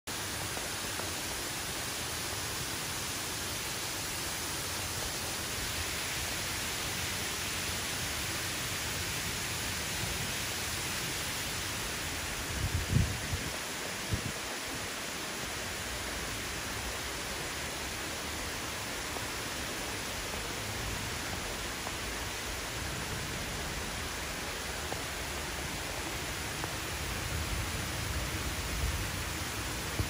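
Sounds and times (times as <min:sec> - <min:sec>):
heavy rain pouring: 0:00.1 - 0:30.0.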